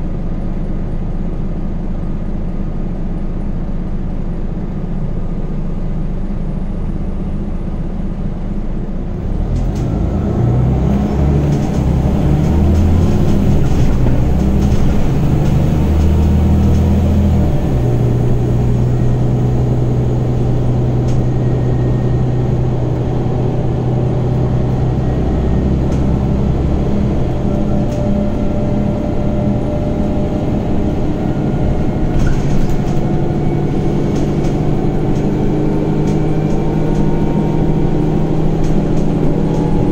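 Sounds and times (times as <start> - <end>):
bus engine pulling away: 0.0 - 39.9.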